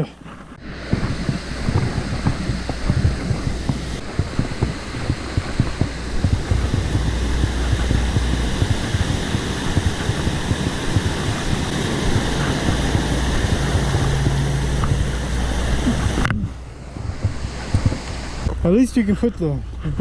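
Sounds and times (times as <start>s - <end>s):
wind buffeting microphone: 0.5s - 20.0s.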